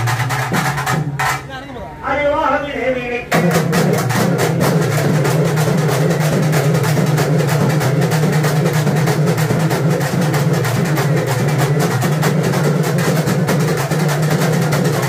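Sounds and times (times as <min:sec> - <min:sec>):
fast steady drumming: 0:00.0 - 0:01.7, 0:03.3 - 0:15.0.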